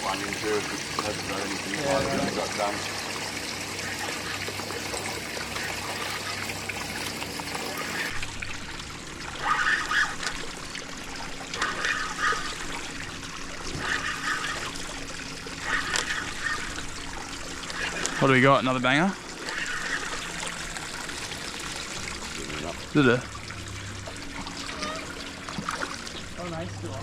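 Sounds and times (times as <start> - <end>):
water lapping against boat hull: 0.0 - 27.0.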